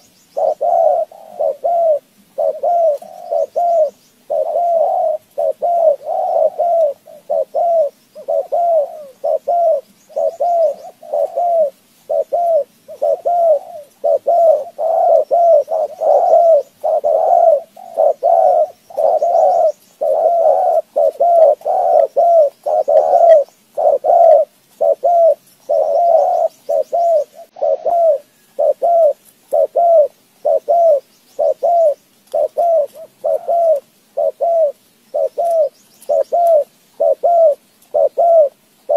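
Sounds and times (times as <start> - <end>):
bird cooing: 0.0 - 38.9.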